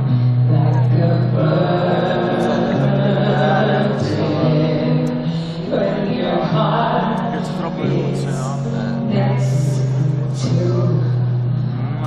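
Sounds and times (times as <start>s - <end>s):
held low chords: 0.0s - 12.0s
woman singing into microphone: 0.1s - 11.6s.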